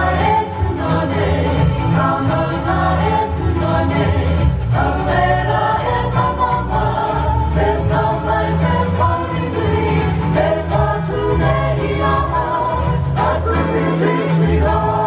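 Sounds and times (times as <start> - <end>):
group of voices singing: 0.0 - 15.0
instrumental accompaniment: 0.0 - 15.0.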